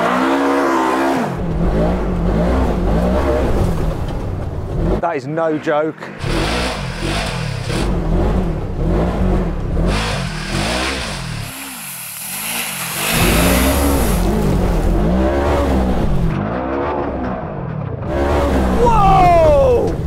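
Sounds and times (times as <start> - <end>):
buggy engine revving hard: 0.0 - 5.0, 6.2 - 11.8, 12.4 - 20.0.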